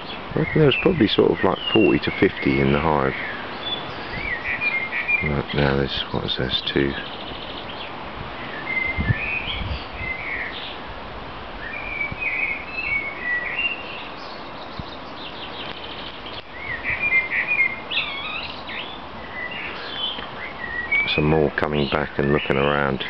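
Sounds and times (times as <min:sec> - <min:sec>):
songbirds chirping and warbling: 0:00.0 - 0:23.0.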